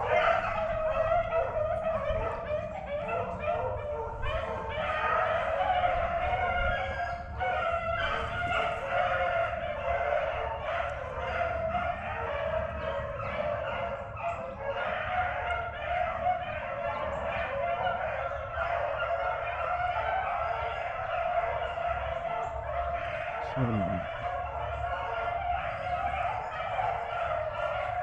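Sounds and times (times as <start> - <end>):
dogs baying: 0.0 - 28.0.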